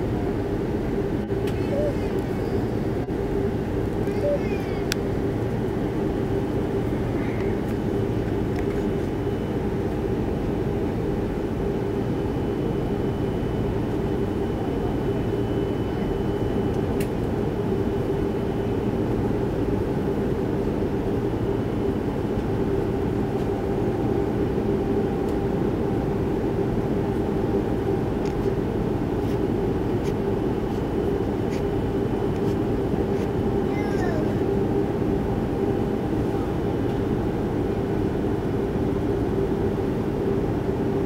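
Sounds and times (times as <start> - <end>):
airliner cabin engine drone: 0.0 - 41.0.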